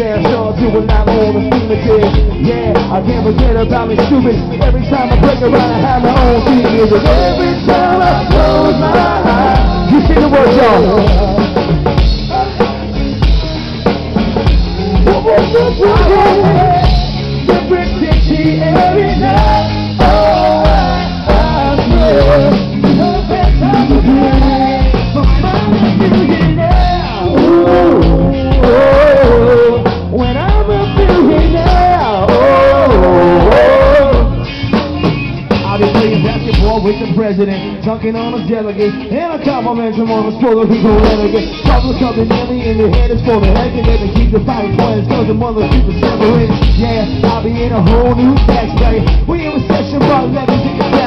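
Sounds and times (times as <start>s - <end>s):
drum kit beat: 0.0s - 51.0s
electric bass and guitar: 0.0s - 51.0s
man singing lead vocals: 0.0s - 51.0s.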